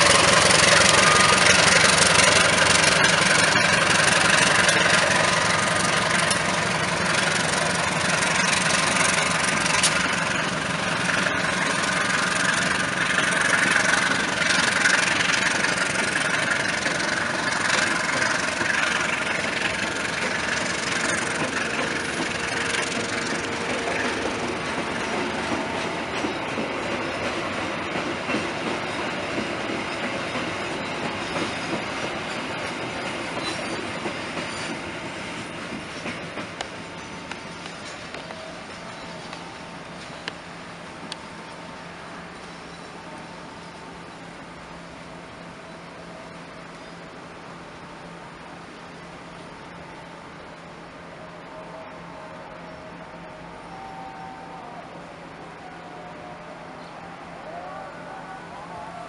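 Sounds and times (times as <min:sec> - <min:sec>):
train coaches rolling past: 0:00.0 - 0:59.0.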